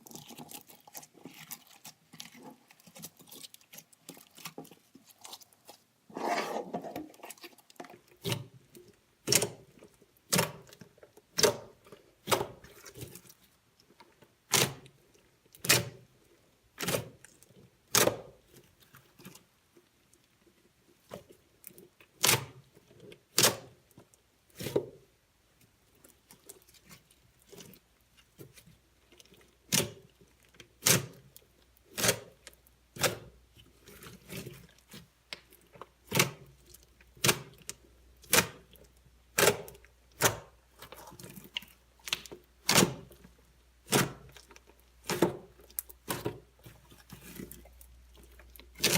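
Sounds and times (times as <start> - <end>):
slime squelching: 0.0 - 48.9.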